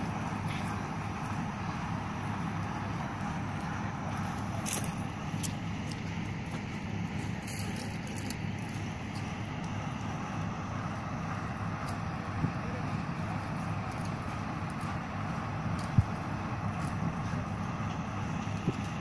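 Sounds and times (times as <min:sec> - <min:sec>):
excavator diesel engines droning: 0:00.0 - 0:19.0.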